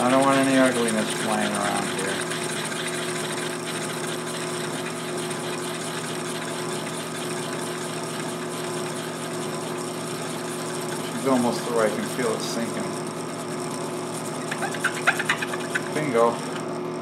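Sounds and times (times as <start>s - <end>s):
drill bit shaving through plastic: 0.0s - 17.0s
drill press motor running: 0.0s - 17.0s.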